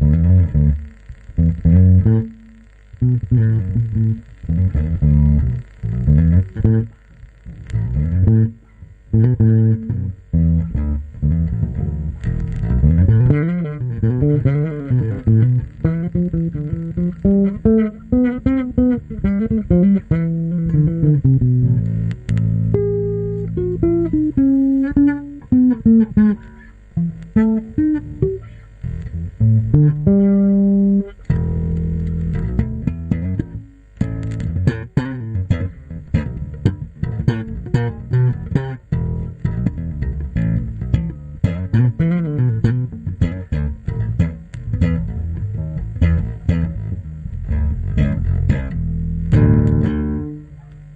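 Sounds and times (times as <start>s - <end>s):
bass guitar melody: 0.0s - 50.9s.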